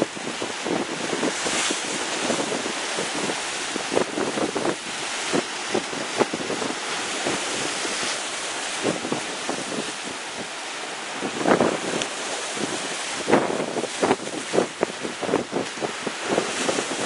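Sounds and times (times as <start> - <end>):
waves breaking against rocks: 0.0 - 17.0
wind buffeting microphone: 0.0 - 17.0.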